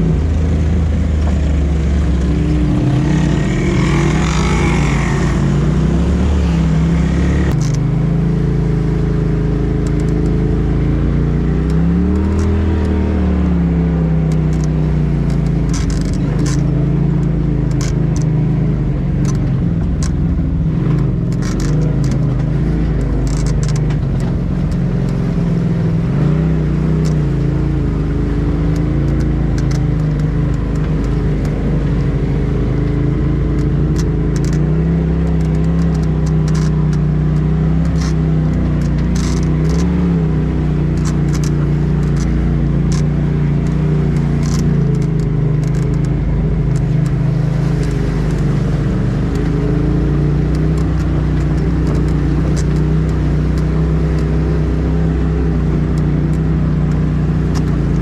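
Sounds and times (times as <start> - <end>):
vehicle engine running and revving: 0.0 - 58.0
sharp clicks and knocks: 0.1 - 7.9, 9.7 - 10.6, 14.2 - 27.7, 28.4 - 58.0.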